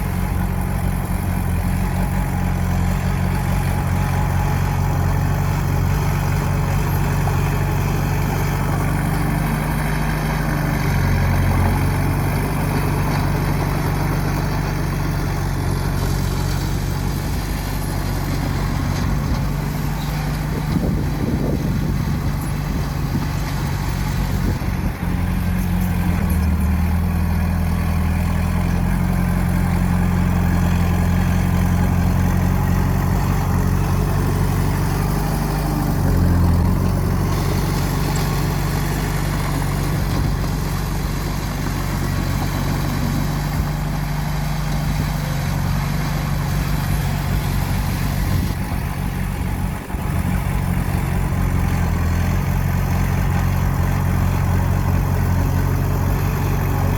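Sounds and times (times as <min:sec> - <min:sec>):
heavy diesel machinery engine: 0:00.0 - 0:56.9.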